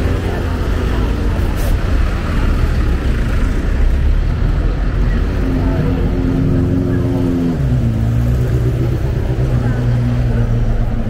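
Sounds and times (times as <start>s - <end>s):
traffic rumble: 0.0s - 11.0s
vehicle engine hum: 0.0s - 11.0s.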